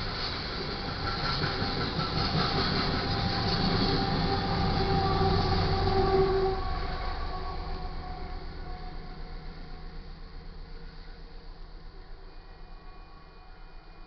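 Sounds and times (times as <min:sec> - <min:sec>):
freight cars rumbling on rails: 0:00.0 - 0:12.9
locomotive whine: 0:00.0 - 0:14.0.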